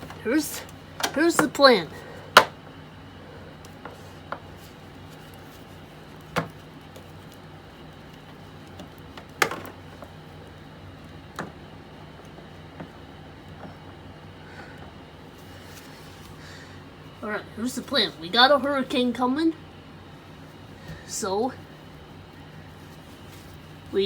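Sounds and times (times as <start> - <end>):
steady room hum: 0.0 - 24.0.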